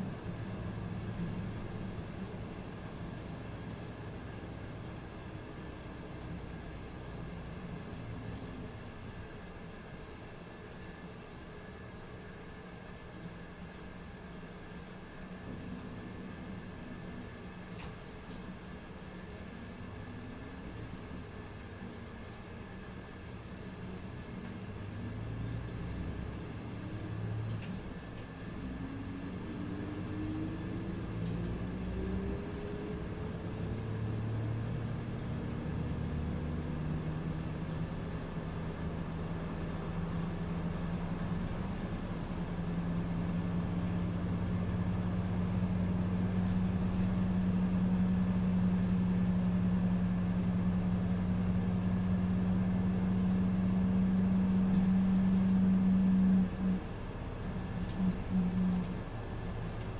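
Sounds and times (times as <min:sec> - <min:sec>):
bus whine rising: 0:00.0 - 0:59.9
low engine drone: 0:00.0 - 0:59.9.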